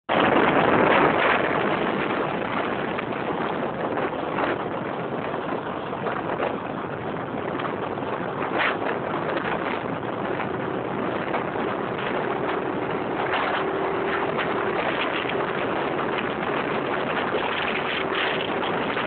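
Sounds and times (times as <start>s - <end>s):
wind and road noise: 0.1s - 19.0s
wind buffeting microphone: 0.1s - 19.0s.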